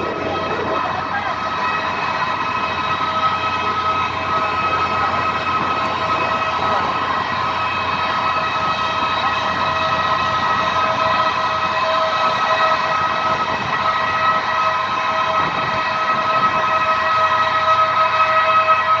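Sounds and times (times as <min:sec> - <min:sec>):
aircraft turbine whine: 0:00.0 - 0:19.0.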